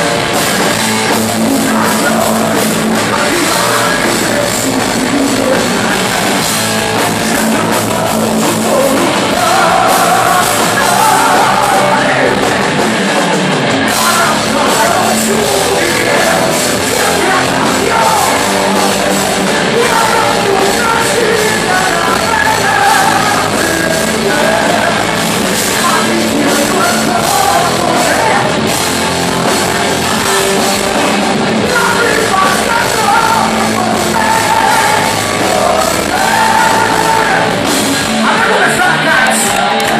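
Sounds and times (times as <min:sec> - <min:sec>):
distorted electric guitars: 0:00.0 - 0:39.9
drums: 0:00.0 - 0:39.9
person singing: 0:00.4 - 0:12.9, 0:13.8 - 0:39.9.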